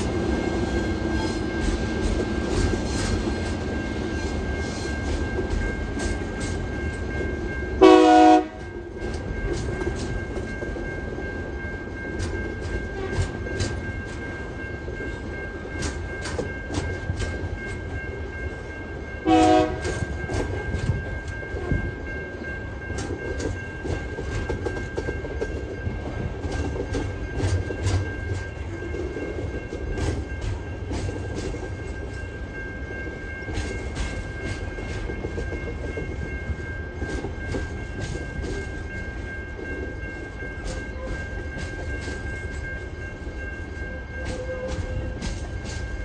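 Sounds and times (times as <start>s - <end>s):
freight train rumbling: 0.0s - 46.0s
steady high ring: 0.0s - 46.0s.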